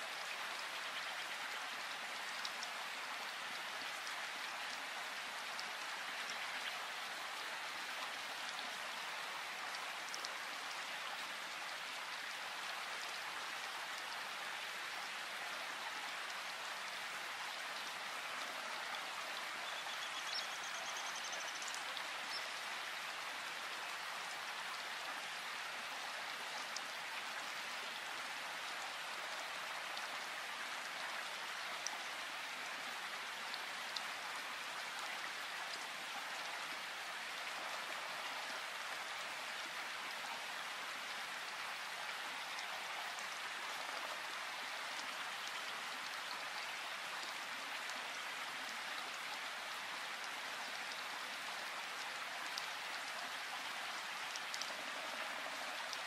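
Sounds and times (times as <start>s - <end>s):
steady rain in a forest: 0.0s - 56.0s.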